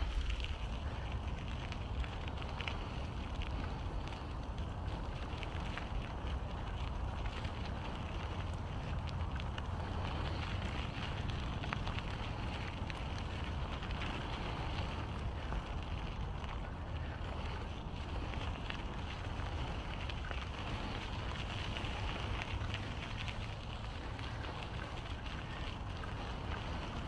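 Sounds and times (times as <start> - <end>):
bicycle tyre hiss: 0.0 - 27.0
wind rushing over microphone: 0.0 - 27.0.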